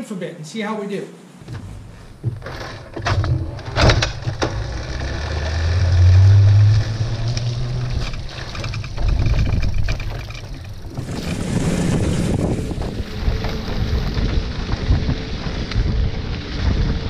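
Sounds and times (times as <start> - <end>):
wind rumble on microphone: 1.5 - 17.0.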